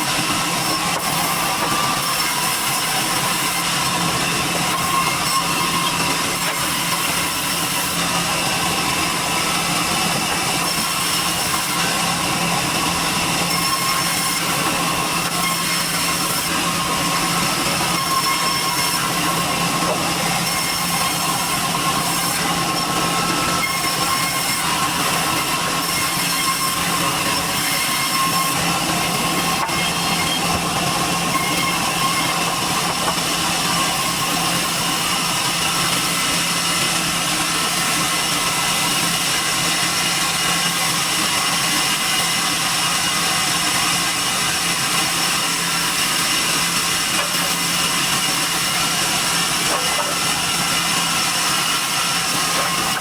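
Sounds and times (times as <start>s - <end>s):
sawmill machinery running: 0.0s - 53.0s.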